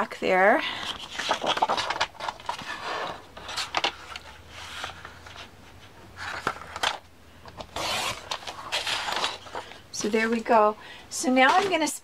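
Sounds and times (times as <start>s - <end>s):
paper rustling and scraping: 0.7s - 10.3s, 11.3s - 11.9s.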